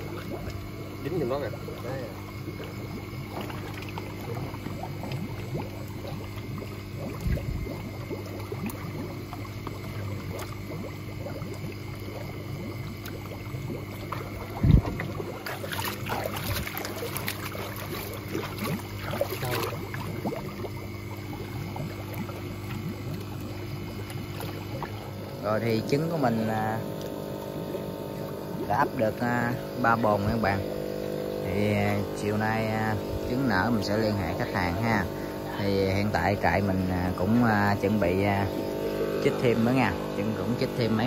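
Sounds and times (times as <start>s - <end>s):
motor hum: 0.0s - 41.0s
water splashing and trickling: 0.0s - 41.0s.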